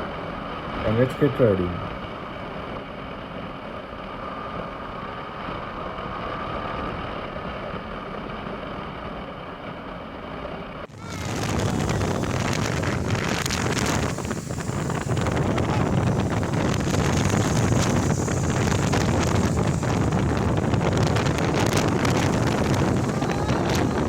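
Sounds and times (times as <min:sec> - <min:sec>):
wind rush over microphone: 0:00.0 - 0:24.0.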